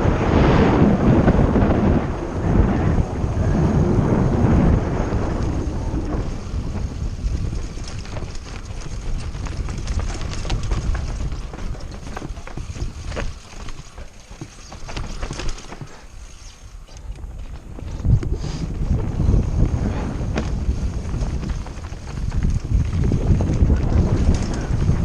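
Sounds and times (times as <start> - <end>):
wind rumbling on microphone: 0.0 - 25.0
mountain bike rattling over rocks: 4.0 - 25.0.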